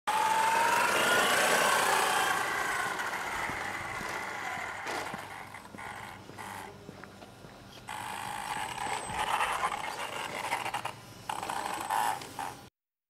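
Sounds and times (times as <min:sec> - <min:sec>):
electric motor whining: 0:00.1 - 0:06.8, 0:07.7 - 0:12.7
tyres rattling on paving stones: 0:01.0 - 0:06.8, 0:07.8 - 0:12.7.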